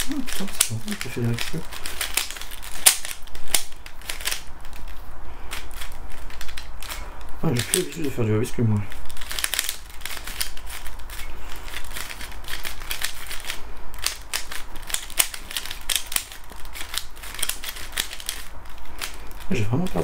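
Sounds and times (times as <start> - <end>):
puzzle cube plastic clicks: 0.0 - 8.1, 8.8 - 20.0.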